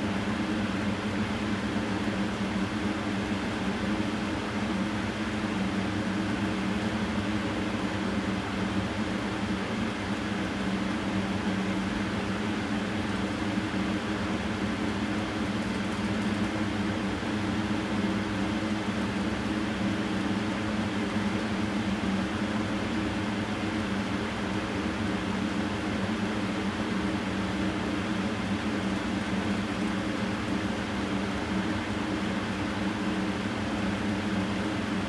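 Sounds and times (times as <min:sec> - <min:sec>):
mechanical hum with hiss: 0:00.0 - 0:35.0.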